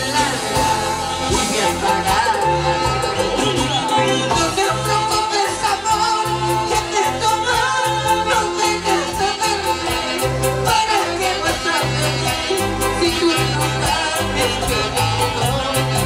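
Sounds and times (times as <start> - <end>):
keyboard: 0.0 - 16.0
latin dance band playing: 0.0 - 16.0
woman singing: 0.0 - 16.0.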